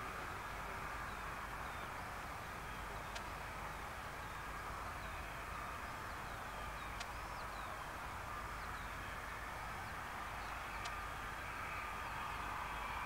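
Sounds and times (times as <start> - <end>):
small birds chirping: 0.0 - 12.5
distant jet engines whining: 0.0 - 13.0.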